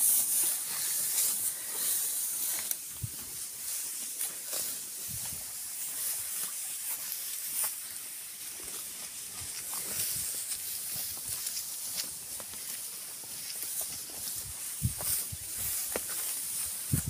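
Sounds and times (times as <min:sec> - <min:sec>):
dry grass rustling underfoot: 0:00.0 - 0:17.0
steady high hiss: 0:00.0 - 0:17.0.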